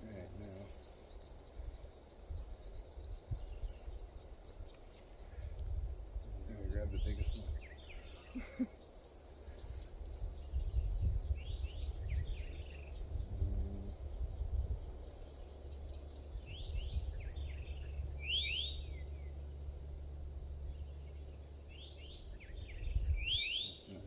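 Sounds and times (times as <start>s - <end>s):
birds chirping and trilling: 0.0s - 24.0s
steady low rumble: 0.0s - 24.0s.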